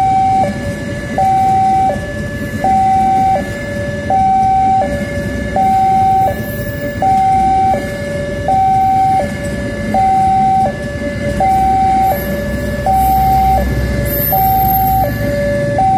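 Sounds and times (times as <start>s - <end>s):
passenger train rumbling past: 0.0s - 15.9s
two-tone level crossing alarm: 0.0s - 15.9s.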